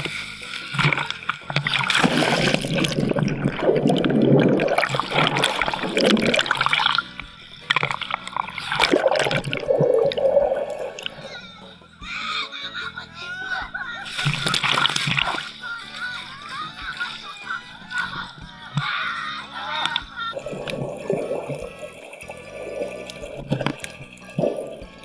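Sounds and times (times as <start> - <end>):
water splashing and gurgling: 0.0 - 12.2, 13.5 - 25.0.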